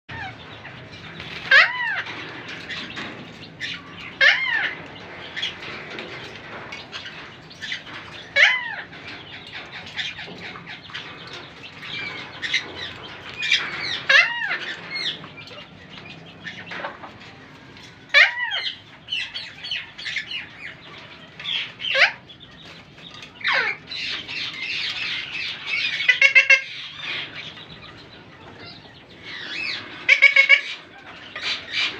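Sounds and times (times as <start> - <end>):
parakeet calling: 0.1 - 5.6, 7.0 - 15.7, 18.1 - 22.7, 23.3 - 31.9.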